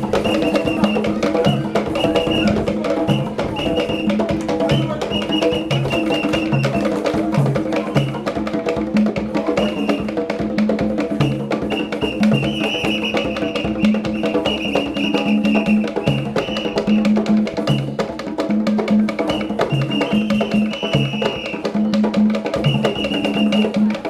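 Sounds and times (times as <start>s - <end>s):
hand drums playing fast rhythm: 0.0s - 24.0s.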